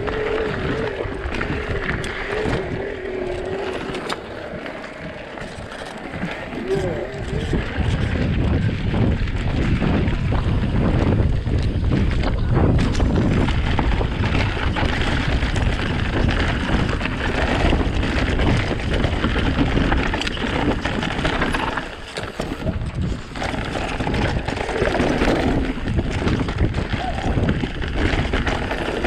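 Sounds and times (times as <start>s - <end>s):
bike rattling and knocking: 0.0s - 29.0s
wind and tyre rumble: 0.0s - 29.0s.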